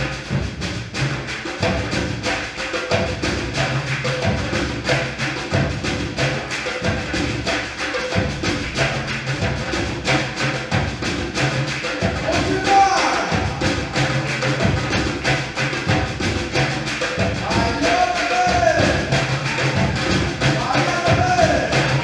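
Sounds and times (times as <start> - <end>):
bass drums repeating pattern: 0.0 - 22.0
fast strokes on higher drums: 0.0 - 22.0.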